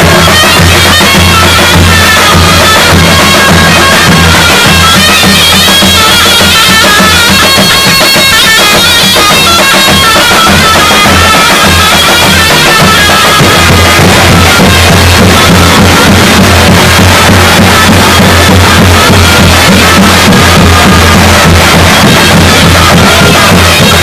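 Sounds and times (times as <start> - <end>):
big drum beat: 0.0 - 24.0
shrill reedy pipe melody: 0.0 - 24.0.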